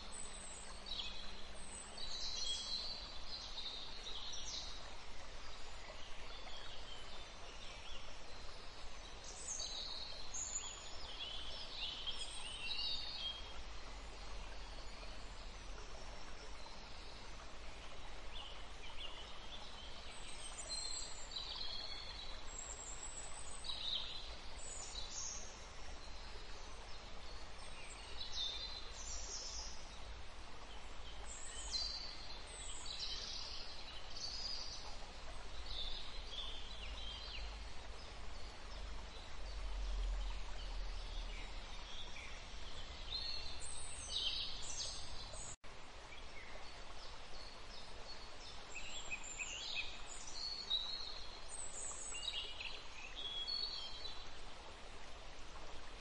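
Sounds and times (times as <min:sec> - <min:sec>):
background hiss: 0:00.0 - 0:56.0.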